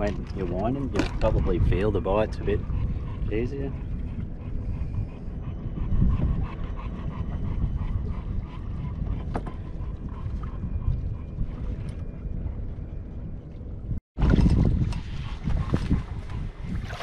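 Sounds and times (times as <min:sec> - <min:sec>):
water moving around hull: 0:00.0 - 0:17.0
wind rumble on microphone: 0:00.0 - 0:17.0.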